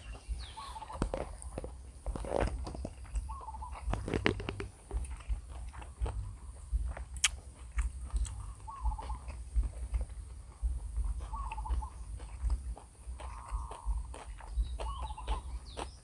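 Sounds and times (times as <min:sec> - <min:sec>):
chewing noodles: 0:00.0 - 0:16.0.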